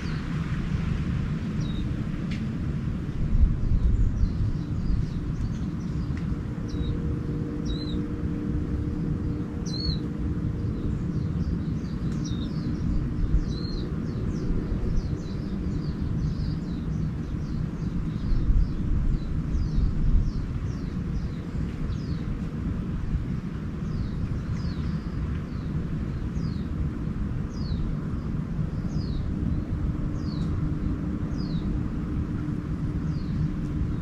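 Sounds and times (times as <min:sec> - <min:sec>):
faint hum: 0:00.0 - 0:34.0
small songbirds chirping: 0:00.0 - 0:34.0
steady low rumble: 0:00.0 - 0:34.0.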